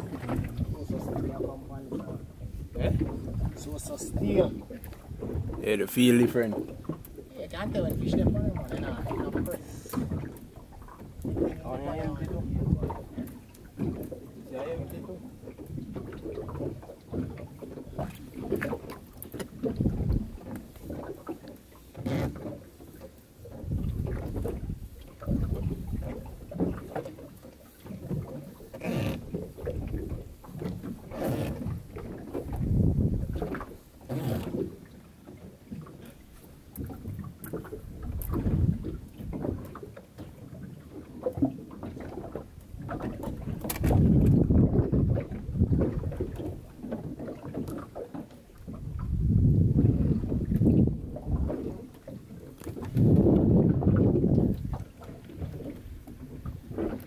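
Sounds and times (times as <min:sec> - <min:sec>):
wind on microphone: 0:00.0 - 0:21.3, 0:23.4 - 0:27.0, 0:27.8 - 0:34.9, 0:36.7 - 0:57.0
water slapping boat hull: 0:00.0 - 0:57.0.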